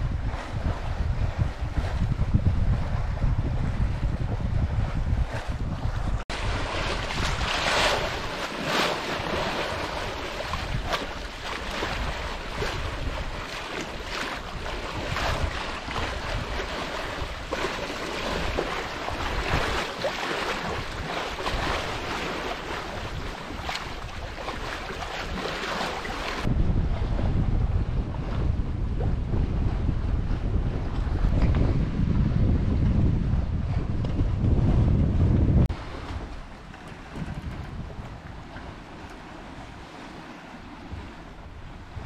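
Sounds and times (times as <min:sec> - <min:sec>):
water rushing along boat hull: 0:00.0 - 0:42.0
wind buffeting microphone: 0:00.0 - 0:42.0.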